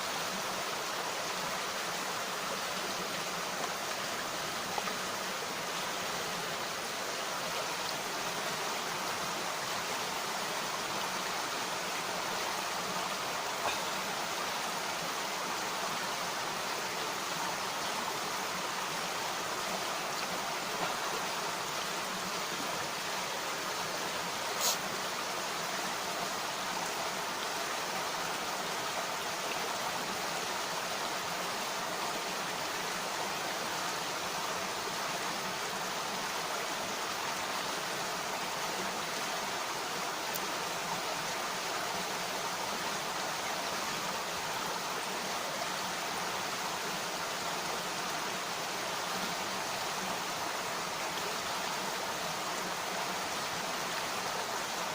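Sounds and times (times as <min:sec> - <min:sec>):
stream rushing over rocks: 0:00.0 - 0:54.9.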